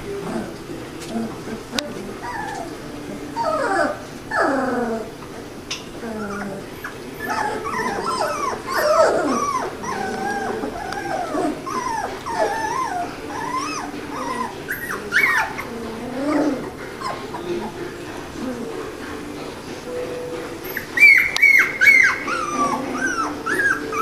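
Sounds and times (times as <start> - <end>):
puppies whimpering and squeaking: 0.0 - 24.0.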